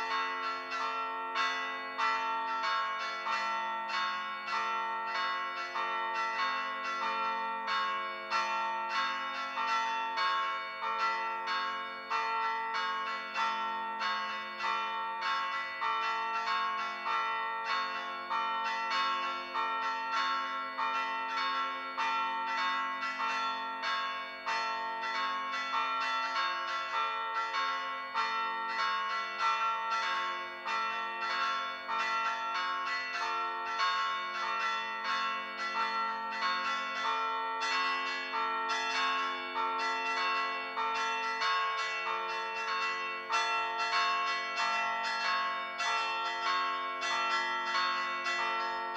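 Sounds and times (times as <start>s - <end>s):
church bells struck by hand: 0.0s - 48.9s.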